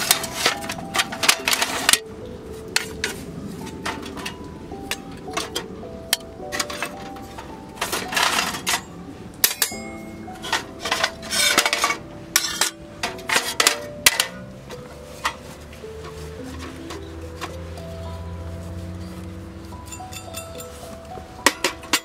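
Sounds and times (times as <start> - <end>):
cookware clinking and clattering: 0.0 - 2.1, 2.7 - 17.7, 19.8 - 22.0
soft background music: 0.0 - 22.0.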